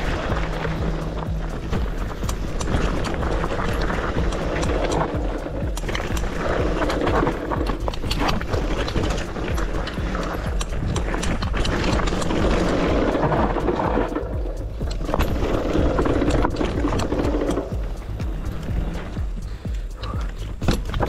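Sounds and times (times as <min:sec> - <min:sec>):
bike rattling and clattering: 0:00.0 - 0:21.0
tyres crunching over gravel: 0:00.0 - 0:21.0.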